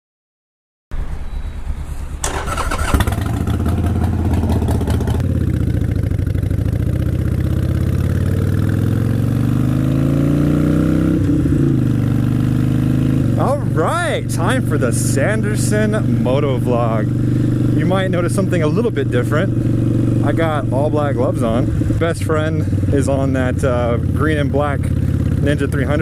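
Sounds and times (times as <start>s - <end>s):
motorcycle engine revving: 2.2s - 26.0s.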